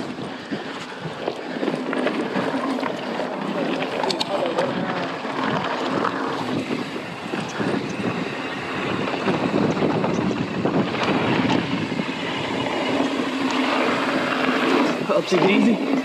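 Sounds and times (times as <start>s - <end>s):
bike rattling: 0.0s - 16.0s
tires crunching over dirt: 0.0s - 16.0s
wind on microphone: 0.0s - 16.0s.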